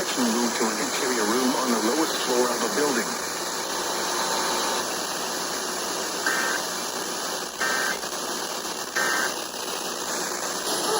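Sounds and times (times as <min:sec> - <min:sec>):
buzzy data bursts: 0:00.0 - 0:10.9
radio hiss: 0:00.0 - 0:10.9.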